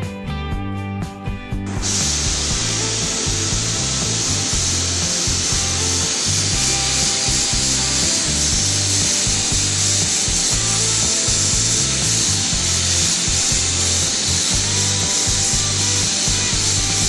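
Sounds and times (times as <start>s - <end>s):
background music with bass line: 0.0s - 17.0s
paint spray gun hissing: 1.7s - 17.0s.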